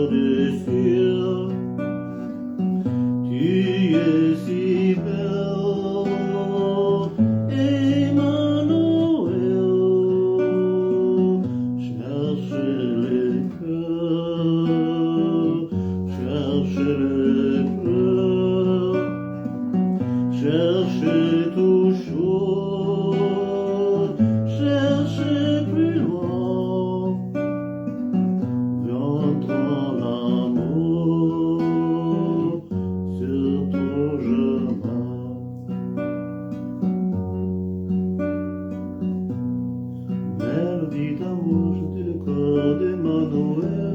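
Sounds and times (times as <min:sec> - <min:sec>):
man singing: 0:00.0 - 0:36.0, 0:40.1 - 0:43.9
song with acoustic guitar: 0:00.0 - 0:43.9.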